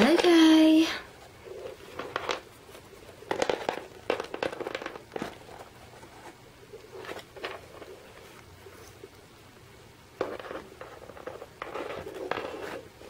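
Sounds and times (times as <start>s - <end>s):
handling rustles and knocks: 0.0s - 9.2s, 10.2s - 13.0s.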